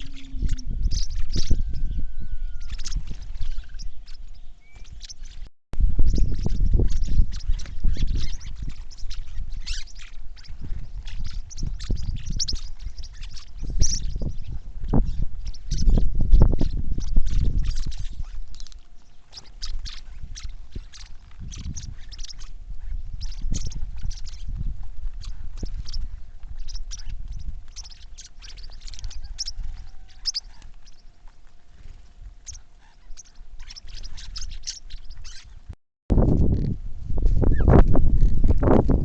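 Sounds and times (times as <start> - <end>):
small birds chirping: 0.0 - 35.8.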